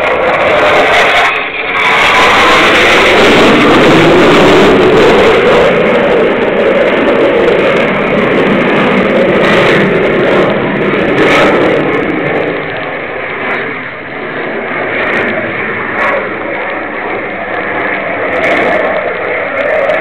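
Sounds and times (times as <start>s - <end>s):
aircraft engine roar: 0.0s - 20.0s.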